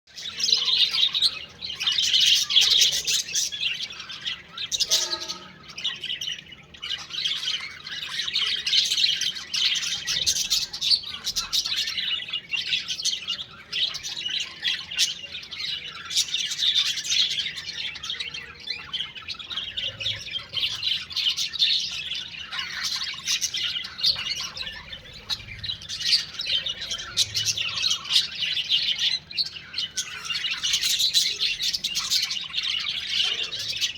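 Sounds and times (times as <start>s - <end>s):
parrots chirping and chattering: 0.1s - 33.9s.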